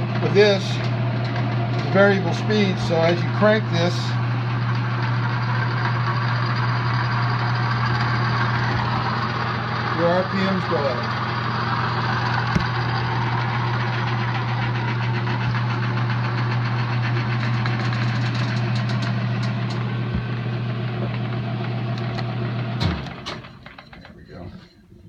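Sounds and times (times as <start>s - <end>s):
lathe motor and gear hum: 0.0s - 24.4s.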